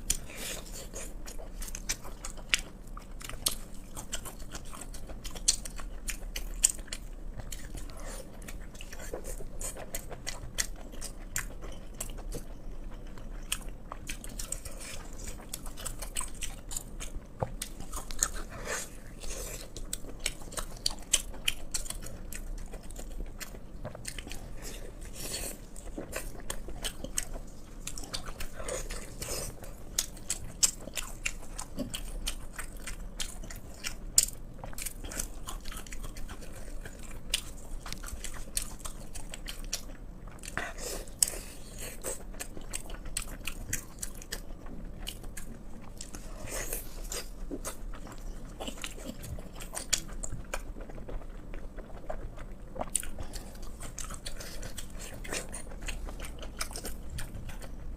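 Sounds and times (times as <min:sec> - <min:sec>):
person chewing and biting: 0:00.0 - 0:57.9.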